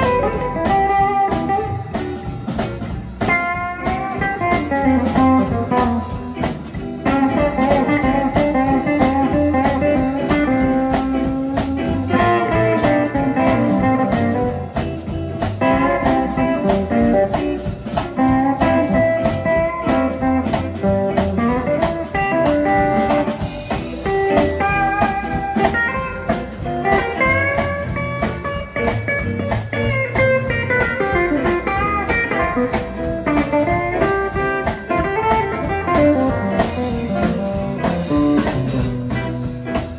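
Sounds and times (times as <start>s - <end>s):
drum kit steady beat: 0.0s - 39.9s
electric guitar lead with bent notes: 0.0s - 39.9s
upright bass: 0.0s - 39.9s.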